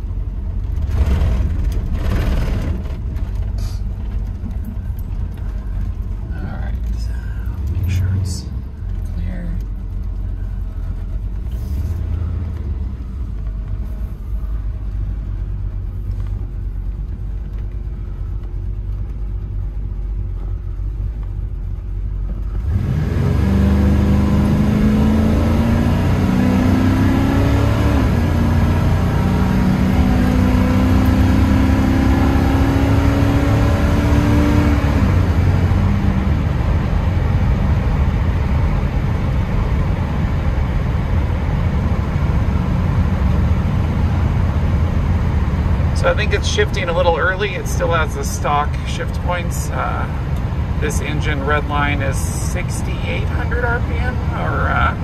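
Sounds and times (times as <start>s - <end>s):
truck engine revving and shifting: 0.0s - 19.1s, 21.8s - 55.0s
engine idling rumble: 0.0s - 26.0s, 34.9s - 55.0s.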